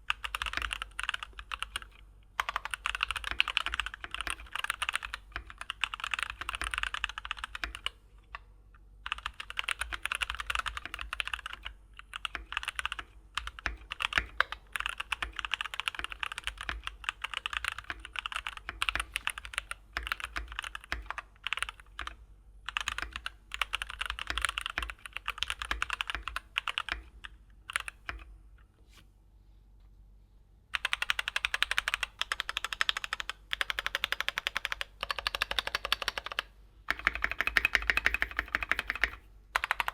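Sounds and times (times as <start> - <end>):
mechanical keyboard typing: 0.0 - 8.0, 9.0 - 28.3, 30.8 - 39.9.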